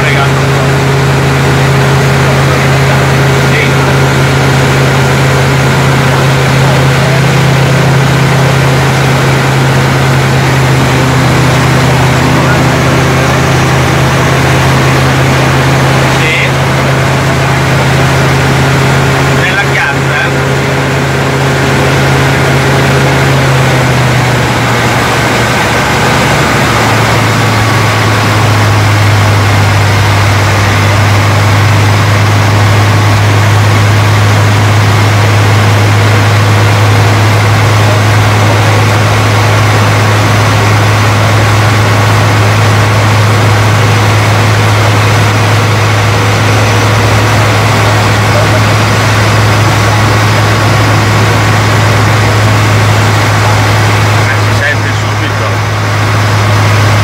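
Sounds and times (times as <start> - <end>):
propeller engine drone: 0.0 - 57.0.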